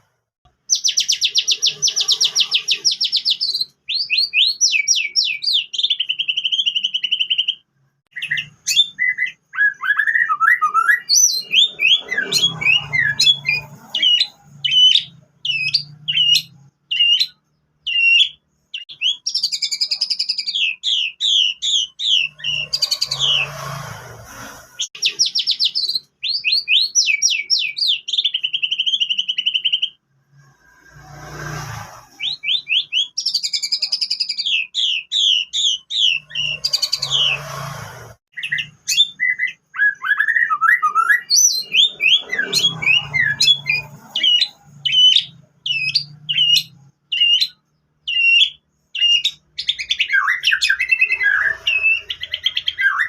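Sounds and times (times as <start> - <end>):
bird singing with trills: 0.5 - 23.6, 24.8 - 30.0, 32.1 - 37.5, 38.3 - 53.0.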